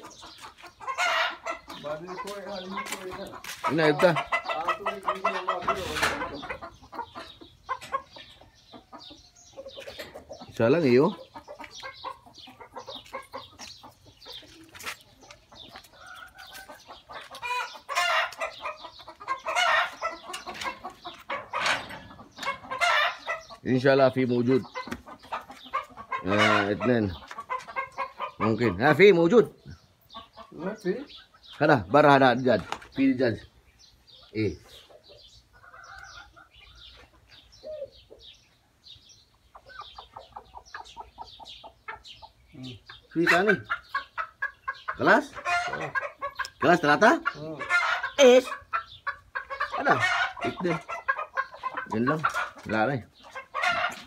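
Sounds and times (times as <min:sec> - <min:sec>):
chicken drawn-out calls: 0:00.0 - 0:54.0
chickens clucking: 0:00.0 - 0:54.0.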